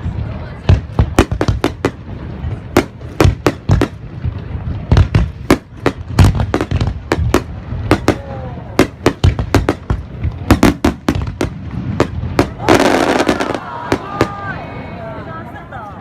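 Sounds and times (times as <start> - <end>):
fireworks bursting with sharp bangs: 0.0 - 14.9
continuous low rumble: 0.0 - 16.0.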